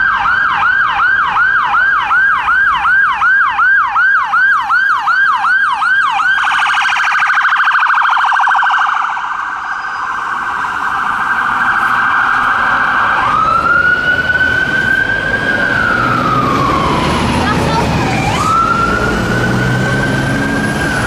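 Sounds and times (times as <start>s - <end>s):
ambulance siren: 0.0s - 21.0s.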